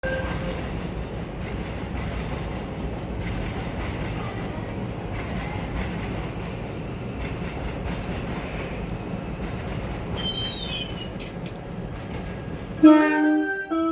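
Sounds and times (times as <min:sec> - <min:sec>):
electric train rumbling: 0:00.0 - 0:13.9
wheel-on-rail noise: 0:00.1 - 0:12.9.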